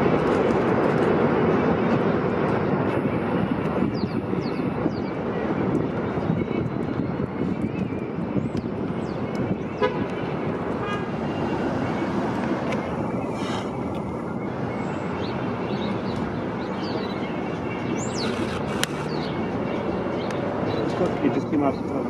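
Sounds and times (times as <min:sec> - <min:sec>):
rumble of passing vehicles: 0:00.0 - 0:22.0.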